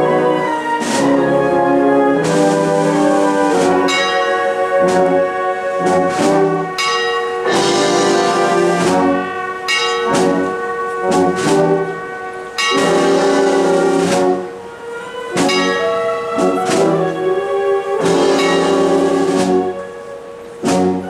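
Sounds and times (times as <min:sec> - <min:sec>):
marching wind band playing: 0:00.0 - 0:21.0.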